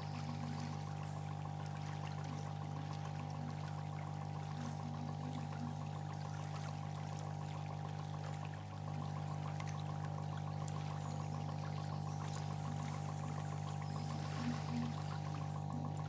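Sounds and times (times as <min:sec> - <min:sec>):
steady low hum: 0:00.0 - 0:16.0
water trickling and pouring: 0:00.0 - 0:16.0.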